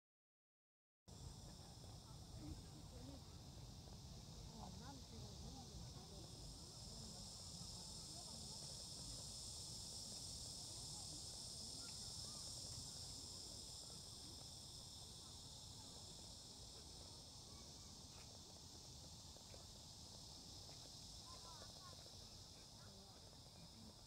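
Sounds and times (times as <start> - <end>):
crickets chirping: 1.1 - 24.0.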